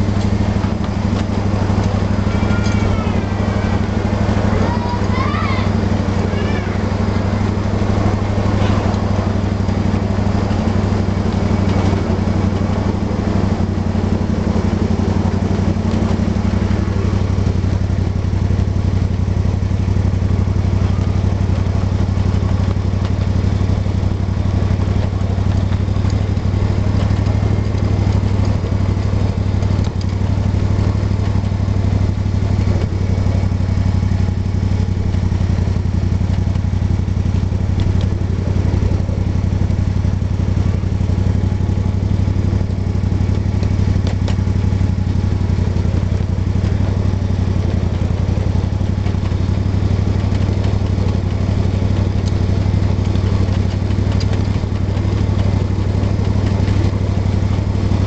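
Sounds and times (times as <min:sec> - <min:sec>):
small engine humming: 0:00.0 - 0:58.0.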